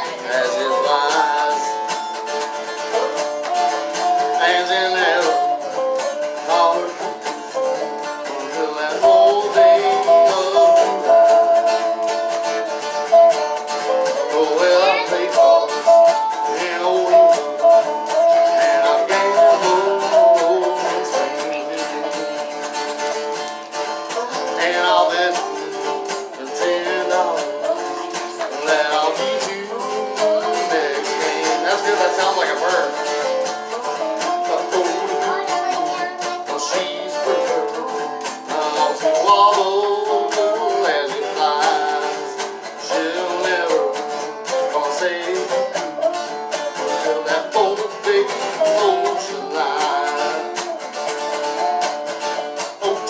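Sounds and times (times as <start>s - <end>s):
banjo picking: 0.0s - 53.0s
guitar picking: 0.0s - 53.0s.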